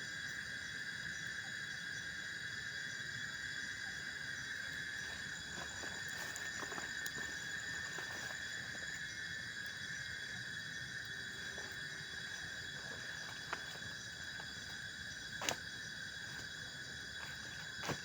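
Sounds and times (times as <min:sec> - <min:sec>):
night insects trilling: 0:00.0 - 0:18.0.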